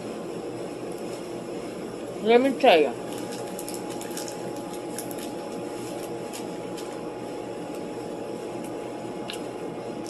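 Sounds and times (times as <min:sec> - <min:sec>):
faint steady whine: 0:00.0 - 0:10.0
mechanical room hum: 0:00.0 - 0:10.0.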